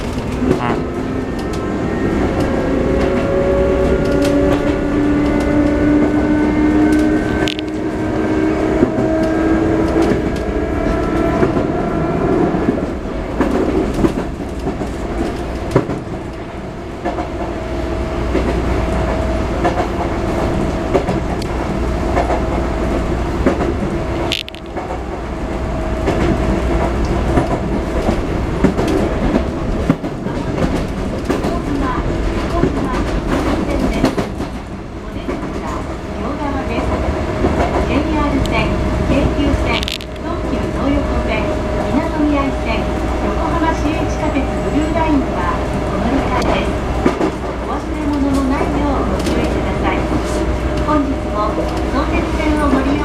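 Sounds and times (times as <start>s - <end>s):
wheels rumbling on rails: 0.0s - 53.0s.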